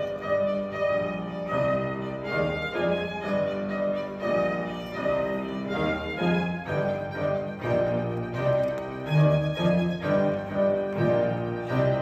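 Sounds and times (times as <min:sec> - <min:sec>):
string trio playing: 0:00.0 - 0:12.0.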